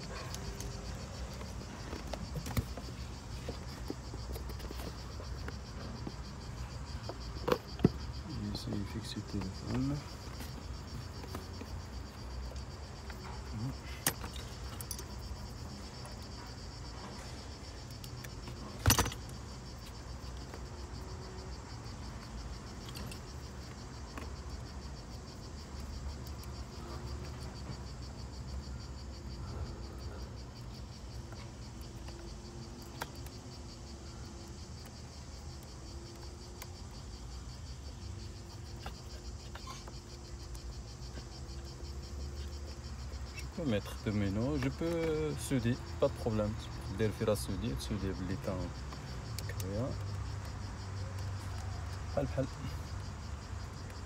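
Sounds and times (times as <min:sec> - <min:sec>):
high buzz of insects: 0:00.0 - 0:54.0.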